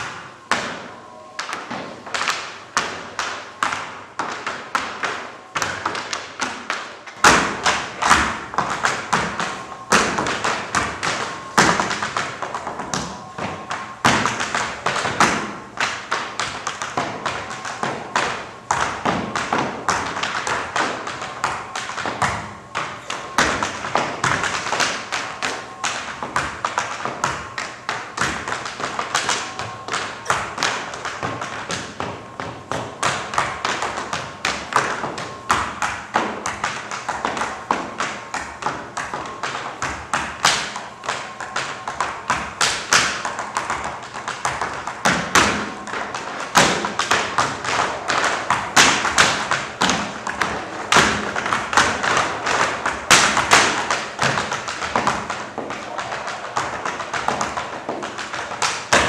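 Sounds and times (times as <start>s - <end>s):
tap shoes striking floor: 0.0s - 59.0s.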